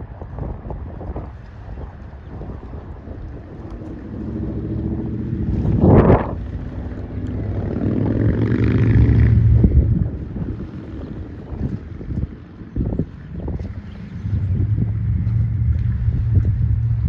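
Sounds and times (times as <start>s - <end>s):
wind noise on microphone: 0.0s - 17.0s
engine running: 1.5s - 17.0s.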